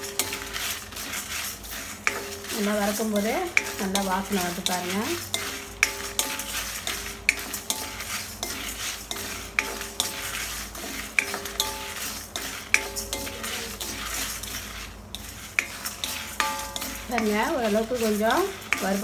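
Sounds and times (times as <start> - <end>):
spatula clinking on metal pan: 0.0 - 1.2, 2.0 - 19.0
seeds scraping and rattling in pan: 0.0 - 19.0.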